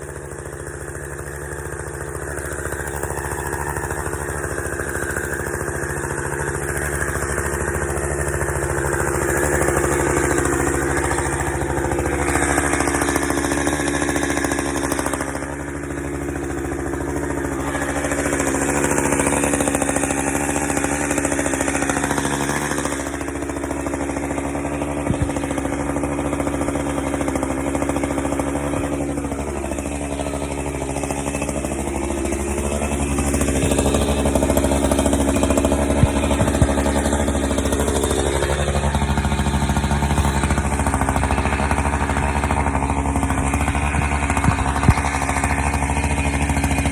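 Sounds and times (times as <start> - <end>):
chainsaw bogging under load: 0.0 - 46.9.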